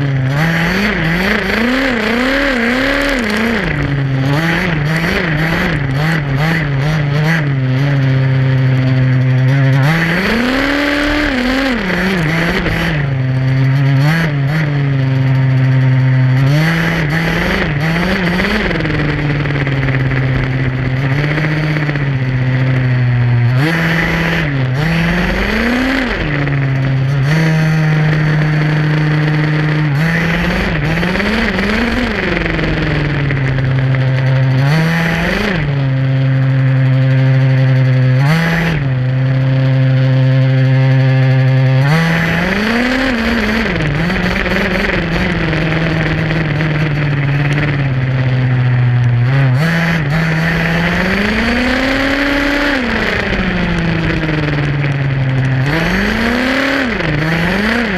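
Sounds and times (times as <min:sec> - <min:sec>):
small two-stroke engine revving: 0:00.0 - 0:57.9.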